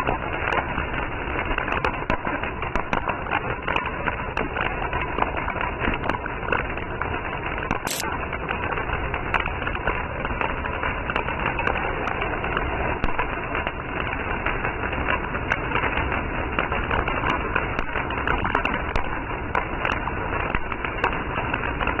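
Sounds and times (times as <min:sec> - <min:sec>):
bonfire crackling and popping: 0:00.0 - 0:22.0
fire rushing noise: 0:00.0 - 0:22.0.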